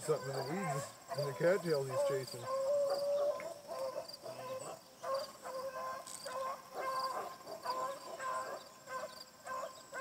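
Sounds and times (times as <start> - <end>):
dog baying and yelping: 0.1 - 10.0.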